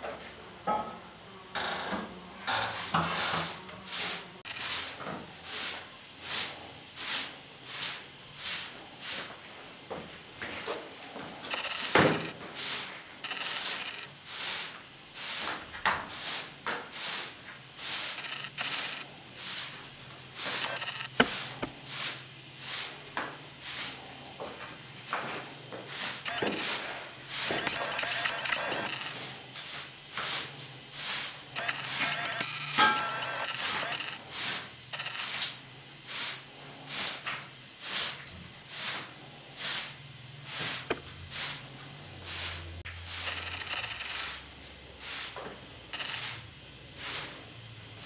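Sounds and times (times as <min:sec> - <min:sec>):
broom sweeping tiled floor: 0:02.4 - 0:48.0.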